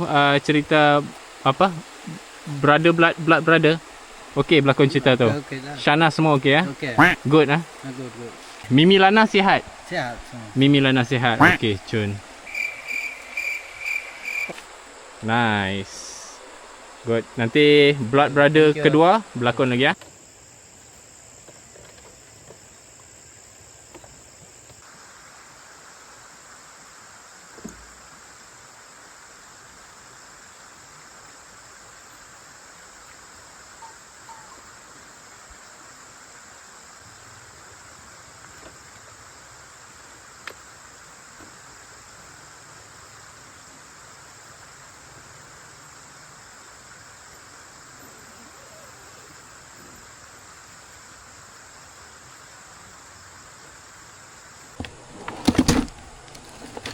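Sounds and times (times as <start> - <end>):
night insects chirring: 0.0 - 56.9.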